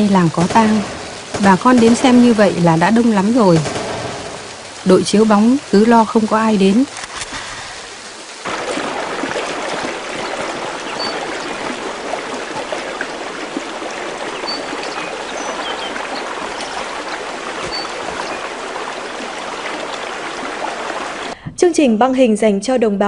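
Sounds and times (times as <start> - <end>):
heavy rain falling: 0.0 - 21.4.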